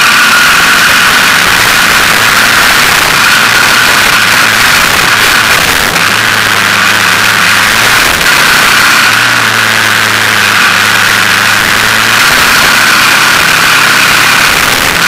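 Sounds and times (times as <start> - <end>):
motorcycle engine running: 0.0 - 15.0
steady noise: 0.0 - 15.0.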